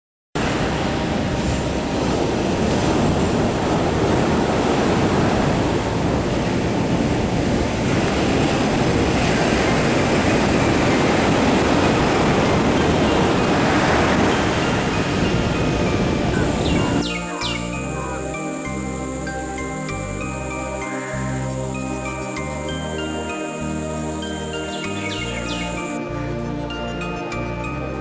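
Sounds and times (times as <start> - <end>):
ocean waves breaking on beach: 0.4 - 26.5.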